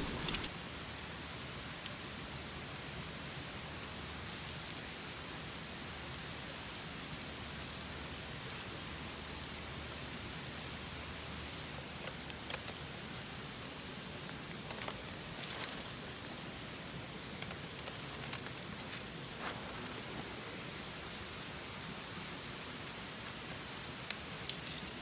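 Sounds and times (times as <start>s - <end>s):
campfire crackling: 0.5s - 25.0s.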